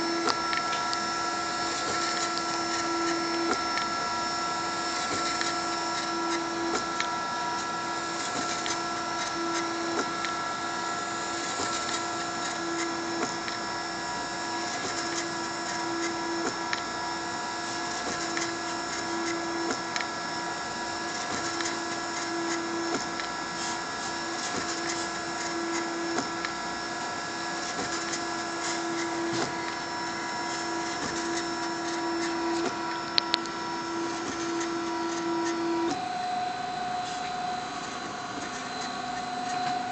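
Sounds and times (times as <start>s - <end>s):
stepper motors whining: 0.0s - 39.9s.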